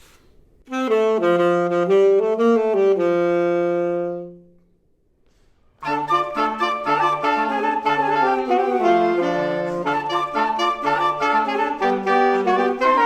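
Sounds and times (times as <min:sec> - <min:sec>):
woodwind duet: 0:00.6 - 0:04.7, 0:05.8 - 0:13.0.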